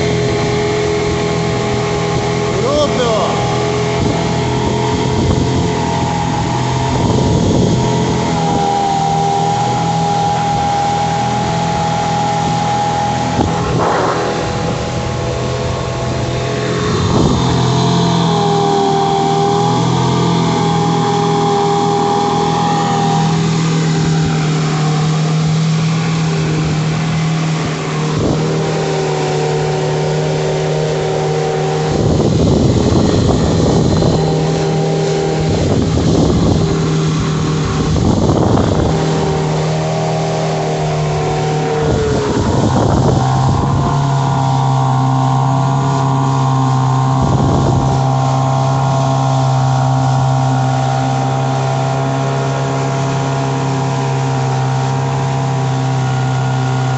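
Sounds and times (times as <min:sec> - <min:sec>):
outboard motor running: 0:00.0 - 0:56.9
water rushing in wake: 0:00.0 - 0:56.9.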